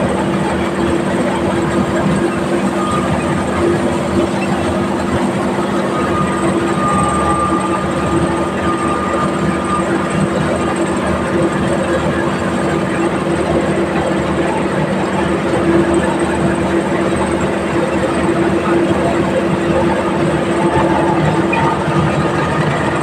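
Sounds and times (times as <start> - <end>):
machine engine droning: 0.0 - 23.0.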